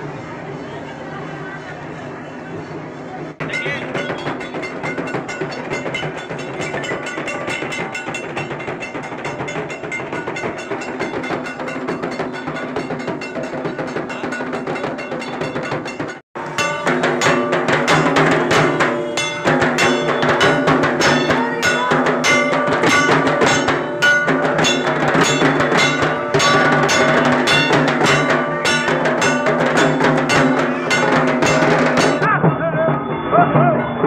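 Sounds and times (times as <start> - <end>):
clanking metal percussion: 3.4 - 34.0
drums beaten in fast rhythm: 3.4 - 34.0.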